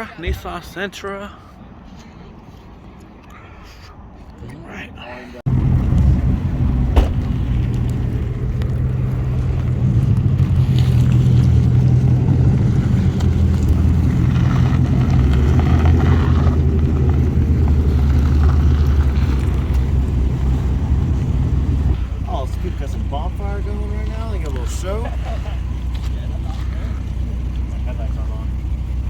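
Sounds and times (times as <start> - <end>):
car engine droning: 5.5 - 29.0.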